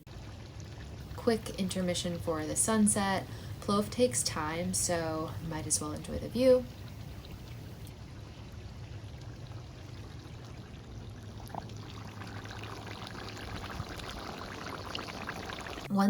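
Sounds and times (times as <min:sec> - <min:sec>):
pot simmering with bubbling hiss: 0:00.0 - 0:16.0.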